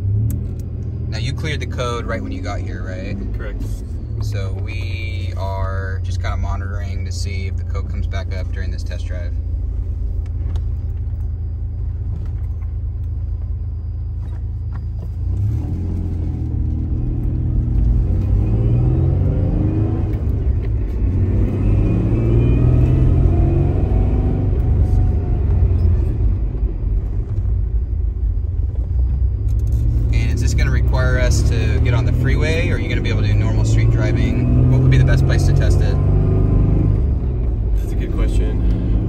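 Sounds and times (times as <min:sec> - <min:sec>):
truck engine accelerating: 0:00.0 - 0:39.0.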